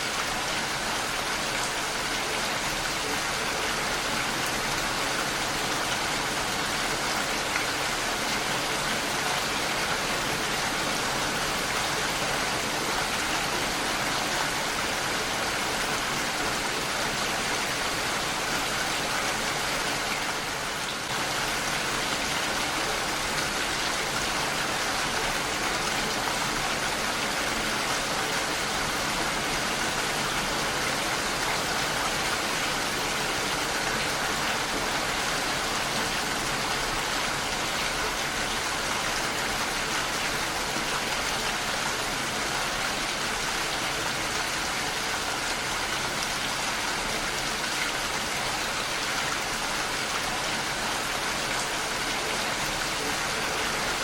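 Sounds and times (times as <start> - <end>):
heavy rain against a window: 0.0 - 54.0.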